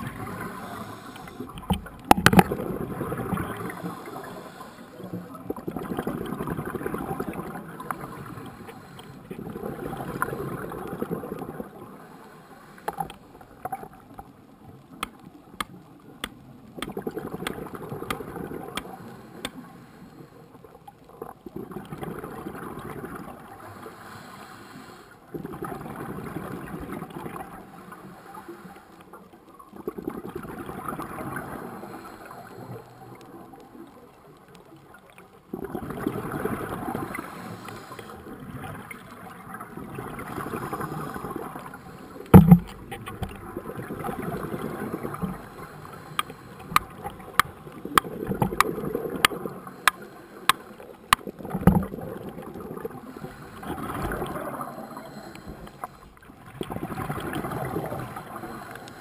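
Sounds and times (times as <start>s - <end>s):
exhaled bubbles gurgling underwater: 0.0s - 59.0s.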